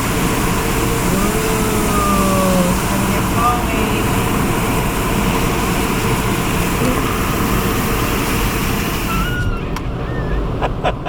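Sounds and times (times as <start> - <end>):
car wash spray hissing: 0.0 - 10.6.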